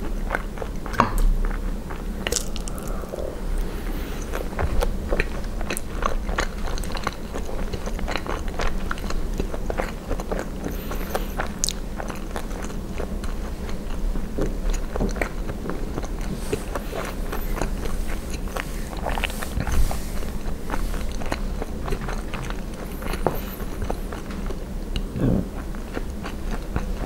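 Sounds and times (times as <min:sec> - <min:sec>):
wet chewing and crunching: 0:00.0 - 0:27.0.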